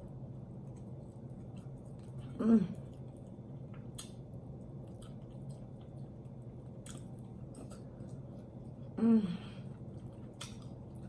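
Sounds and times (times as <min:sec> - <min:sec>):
wet chewing of chicken: 0:00.4 - 0:09.0, 0:09.6 - 0:11.0.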